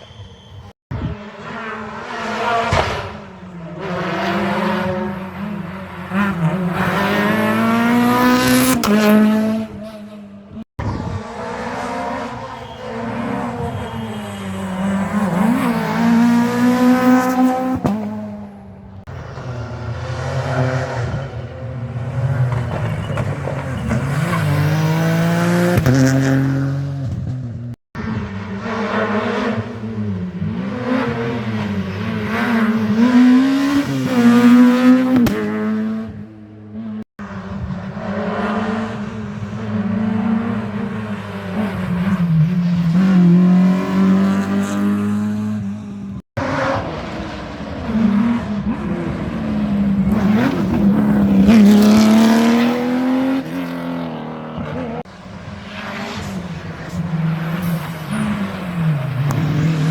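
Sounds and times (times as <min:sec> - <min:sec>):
rally car engines revving high: 0:00.9 - 0:59.9.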